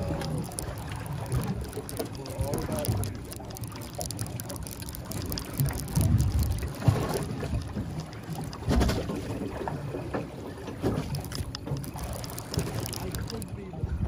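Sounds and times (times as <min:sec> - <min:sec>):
boat low rumble: 0:00.0 - 0:14.0.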